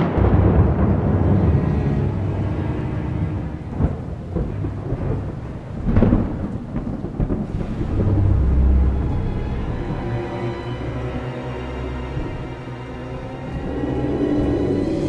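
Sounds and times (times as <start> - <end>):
rain: 0.0 - 15.0
thunder crack: 0.0 - 15.0
thunder rumbling: 0.0 - 15.0.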